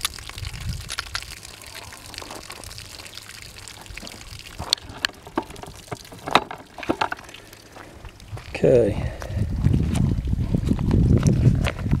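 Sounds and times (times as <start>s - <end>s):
water pouring and trickling: 0.0s - 12.0s.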